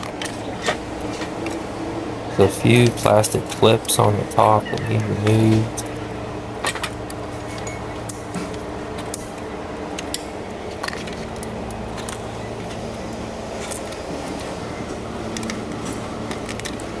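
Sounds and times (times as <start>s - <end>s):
steady low hum: 0.0s - 17.0s
plastic clips clicking and rattling: 2.4s - 17.0s.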